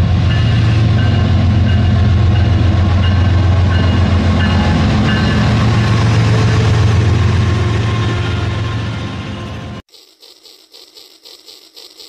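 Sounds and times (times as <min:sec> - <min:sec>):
train low hum: 0:00.0 - 0:09.9.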